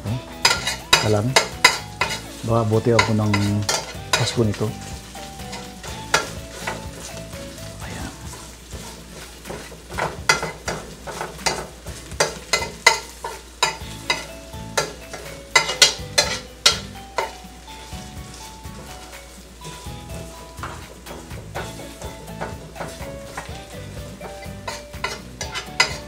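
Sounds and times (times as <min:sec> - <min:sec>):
garlic sizzling in oil: 0:00.0 - 0:26.0
metal spoon scraping a pan: 0:00.3 - 0:07.6, 0:08.3 - 0:26.0.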